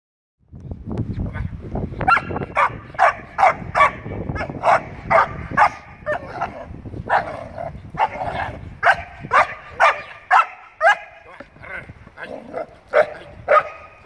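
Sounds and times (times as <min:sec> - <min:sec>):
young dog barking: 0:02.0 - 0:14.0.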